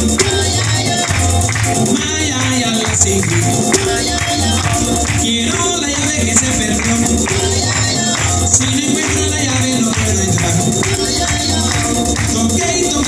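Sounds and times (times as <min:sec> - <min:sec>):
person singing: 0:00.0 - 0:13.0
upbeat dance music: 0:00.0 - 0:13.0.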